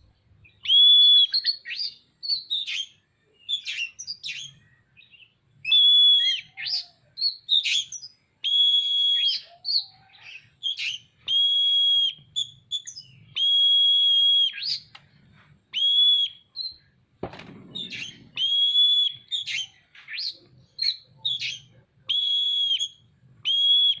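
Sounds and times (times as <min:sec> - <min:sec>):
bird singing whistles and trills: 0:00.4 - 0:15.0, 0:15.7 - 0:16.9, 0:17.6 - 0:24.0.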